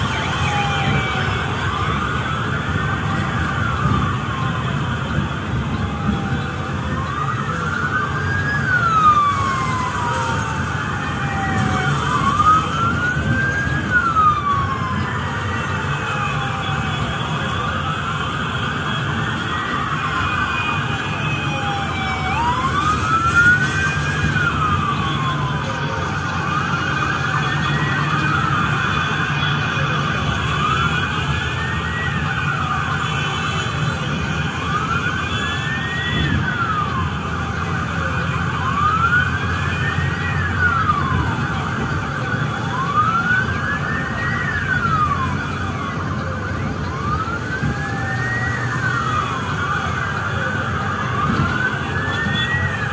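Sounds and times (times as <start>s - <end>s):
low rumble of engines: 0.0s - 52.9s
police siren wailing: 0.0s - 52.9s.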